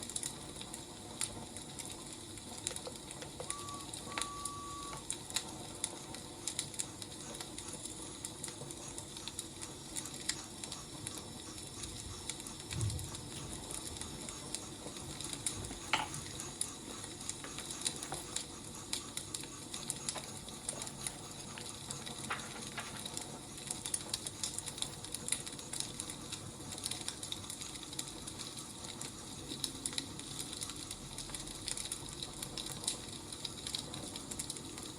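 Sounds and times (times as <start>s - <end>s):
fire hissing: 0.0s - 34.9s
wood fire crackling: 0.0s - 34.9s.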